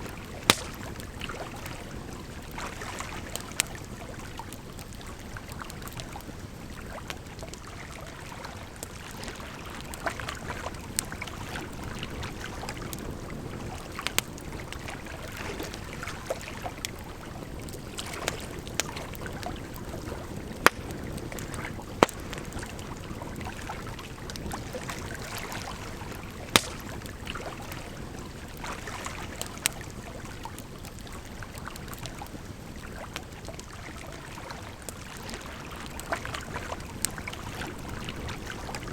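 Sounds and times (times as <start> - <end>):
campfire crackling and popping: 0.0 - 38.9
flowing water: 0.0 - 38.9.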